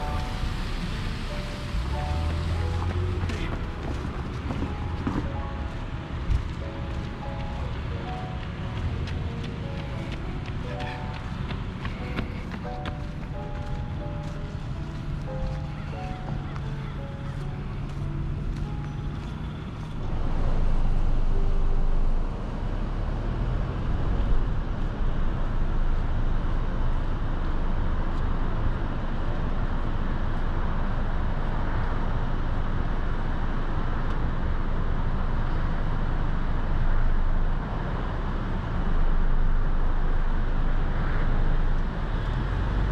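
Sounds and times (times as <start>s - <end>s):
heavy low rumble: 0.0s - 42.0s.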